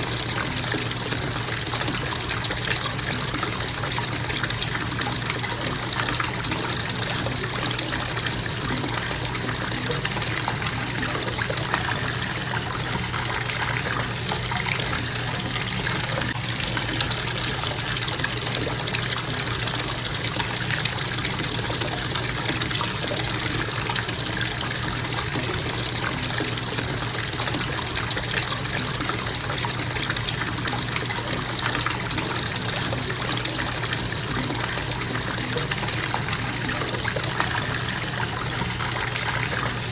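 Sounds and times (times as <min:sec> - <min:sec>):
faucet water splashing into tub: 0:00.0 - 0:39.9.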